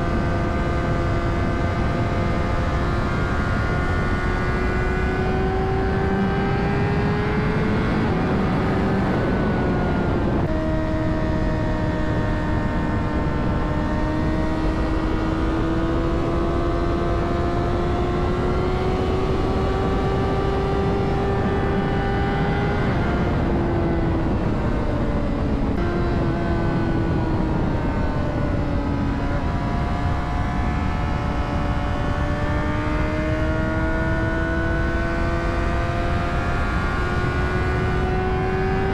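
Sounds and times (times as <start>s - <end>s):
motorcycle engine shifting gears: 0.0s - 38.9s
wind and road noise: 0.0s - 38.9s.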